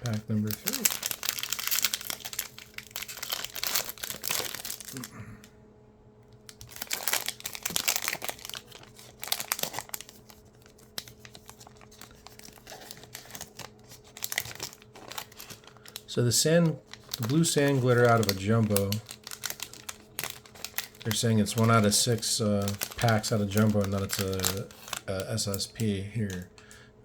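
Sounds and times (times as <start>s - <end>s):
wrapper tearing and crinkling: 0.0s - 5.2s, 6.5s - 26.5s.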